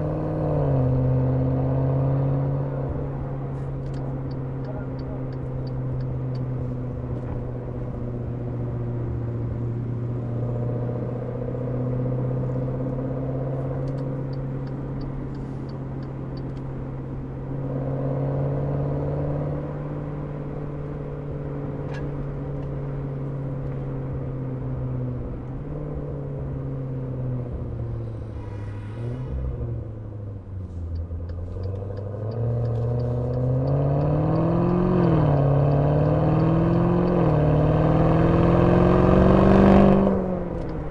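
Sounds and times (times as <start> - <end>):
car exhaust droning and revving: 0.0 - 40.9.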